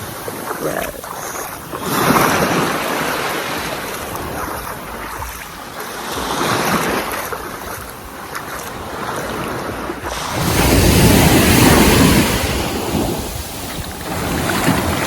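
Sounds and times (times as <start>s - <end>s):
sea surf washing onto beach: 0.0s - 15.0s.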